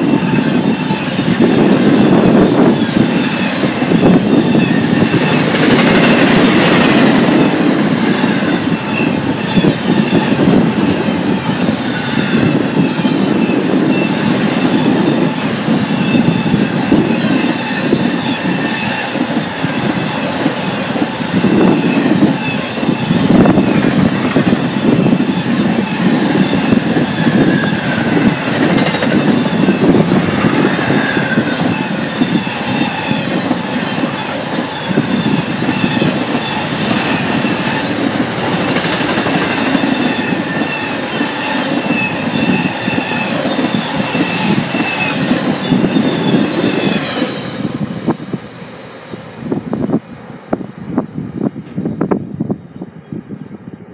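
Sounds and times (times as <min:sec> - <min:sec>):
high wheel squeals: 0:00.0 - 0:48.2
train wheels rolling on rails: 0:00.0 - 0:52.6.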